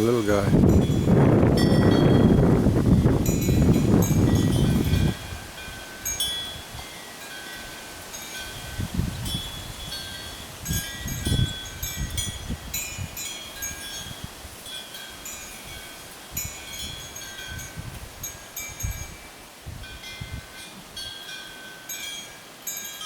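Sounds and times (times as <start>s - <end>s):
wind chimes ringing: 0.0s - 2.5s, 3.2s - 23.0s.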